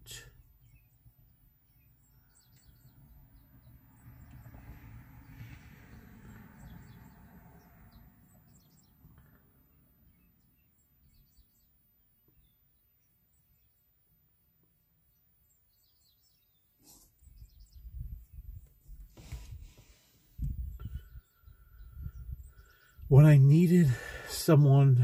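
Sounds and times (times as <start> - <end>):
faint bird chirps: 0.0 - 4.4, 5.2 - 14.0, 15.0 - 23.1.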